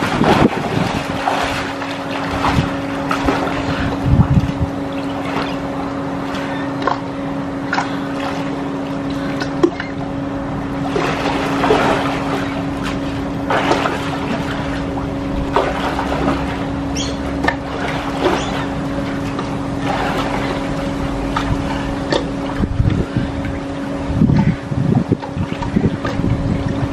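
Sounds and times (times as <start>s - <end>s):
steady low hum: 0.0s - 26.9s
swimmer splashing water: 0.0s - 26.9s.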